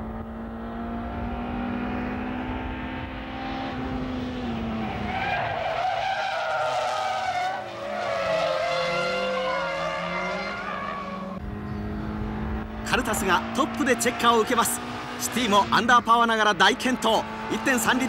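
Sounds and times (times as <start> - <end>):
car engines racing at high revs: 0.0 - 18.0.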